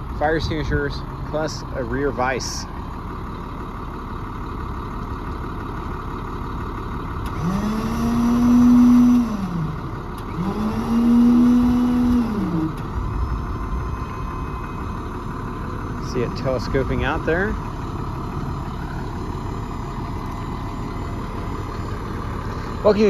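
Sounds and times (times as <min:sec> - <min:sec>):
engine idling hum: 0:00.0 - 0:23.0
hydraulic pump motor whining: 0:02.6 - 0:23.0.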